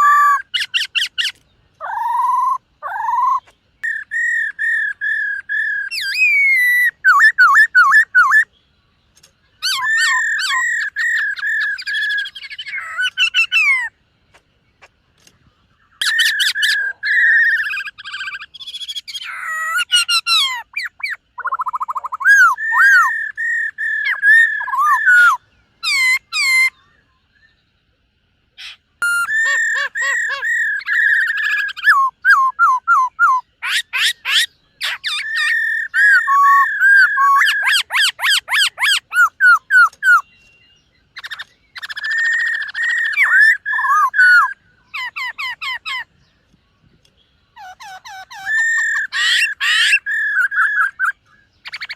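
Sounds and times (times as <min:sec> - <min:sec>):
bird singing whistled phrases: 0:00.0 - 0:08.5, 0:09.6 - 0:13.9, 0:15.9 - 0:27.6, 0:28.6 - 0:46.1, 0:47.6 - 0:51.9.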